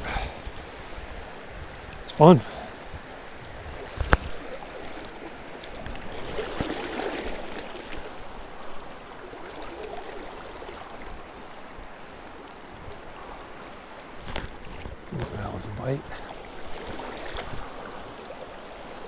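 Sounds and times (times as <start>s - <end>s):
shallow river flowing: 0.0s - 19.0s.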